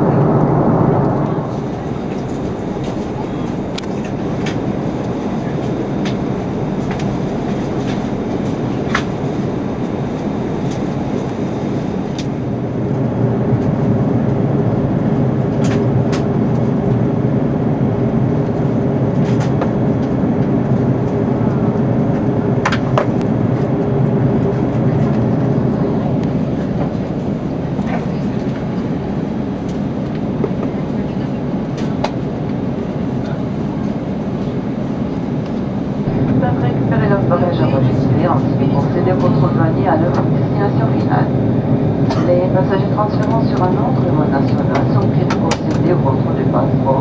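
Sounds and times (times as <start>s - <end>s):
airplane cabin engine rumble: 0.0s - 47.0s
steady hum: 0.0s - 47.0s.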